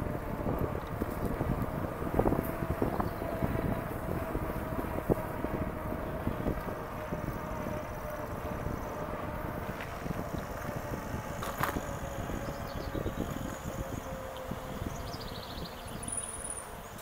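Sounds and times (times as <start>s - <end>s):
electric motor whine: 0.0s - 17.0s
wind buffeting microphone: 0.0s - 17.0s.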